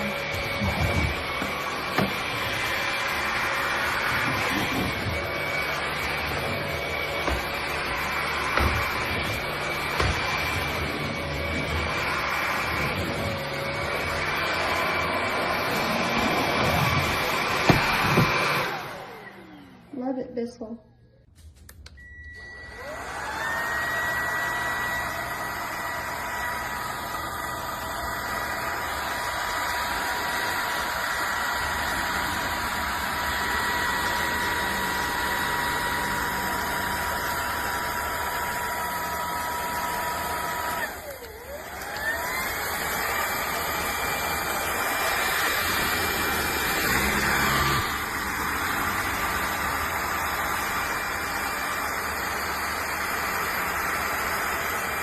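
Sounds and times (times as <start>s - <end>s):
vacuum cleaner motor whine: 0.0s - 20.4s, 21.8s - 55.0s.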